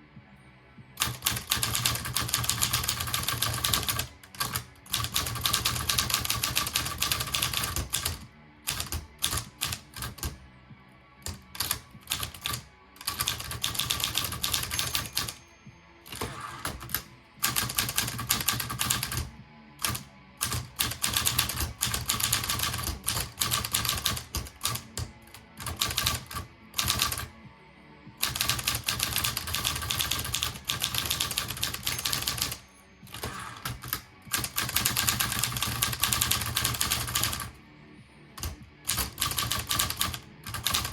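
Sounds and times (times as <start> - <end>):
manual typewriter typing: 1.0 - 10.4, 11.2 - 15.4, 16.1 - 27.3, 28.2 - 37.5, 38.4 - 40.9.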